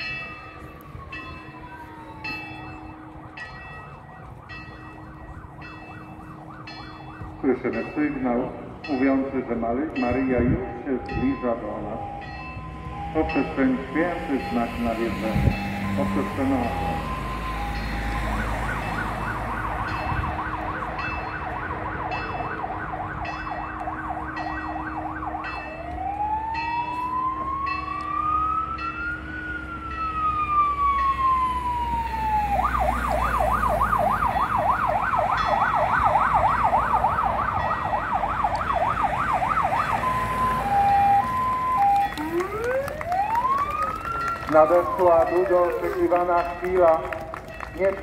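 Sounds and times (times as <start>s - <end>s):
vehicle siren: 0.0s - 48.0s.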